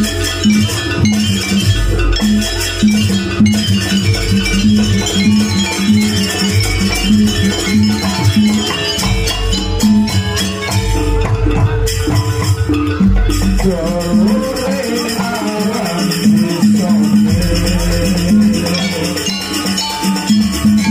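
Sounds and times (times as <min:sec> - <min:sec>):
gamelan ensemble playing: 0:00.0 - 0:20.9.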